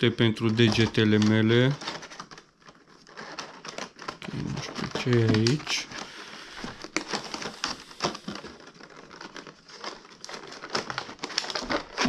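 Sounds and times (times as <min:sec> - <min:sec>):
fingers clicking and scraping cardboard: 0:00.4 - 0:12.0.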